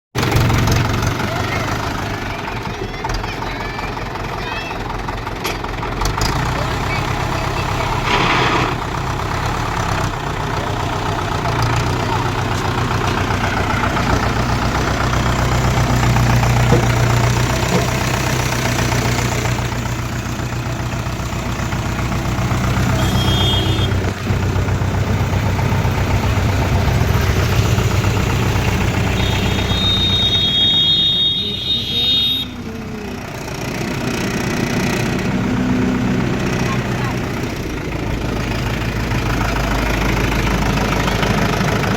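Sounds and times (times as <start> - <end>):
tractor diesel engine idling: 0.1 - 41.9.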